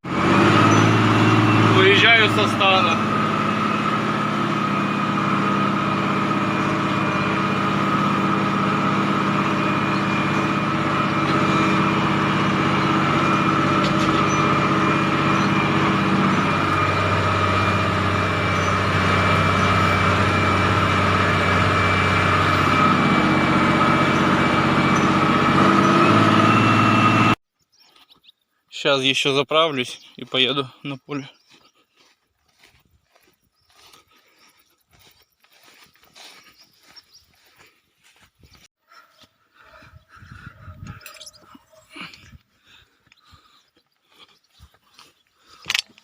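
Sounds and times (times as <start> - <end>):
tractor diesel engine running: 0.0 - 27.4, 31.6 - 38.7, 39.5 - 46.0.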